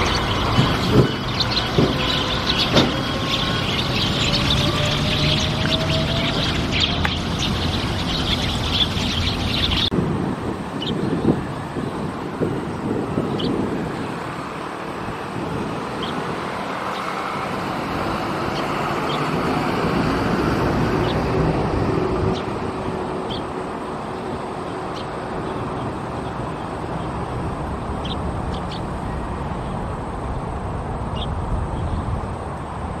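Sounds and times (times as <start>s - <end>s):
sparrows chirping: 0.0s - 10.0s, 10.7s - 32.2s
road traffic noise: 0.0s - 33.0s.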